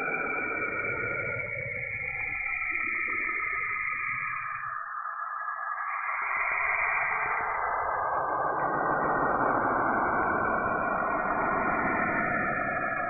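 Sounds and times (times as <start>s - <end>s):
hissing drone with wavering tones: 0.0s - 13.0s.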